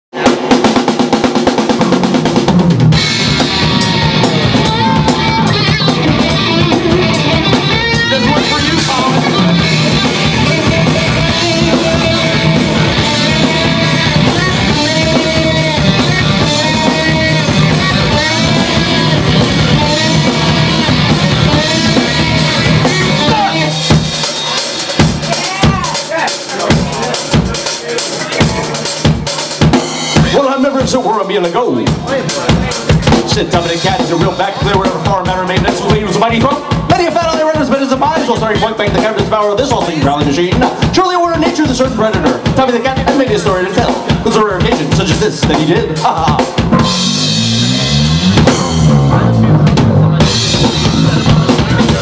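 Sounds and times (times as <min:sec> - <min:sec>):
drum kit: 0:00.1 - 0:52.0
rock band playing live: 0:00.1 - 0:52.0
bass guitar riff: 0:00.2 - 0:27.4, 0:28.4 - 0:52.0.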